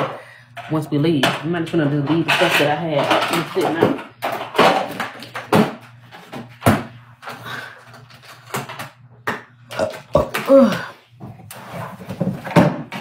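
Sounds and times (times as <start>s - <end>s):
household things knocking and clattering: 0.0s - 13.0s.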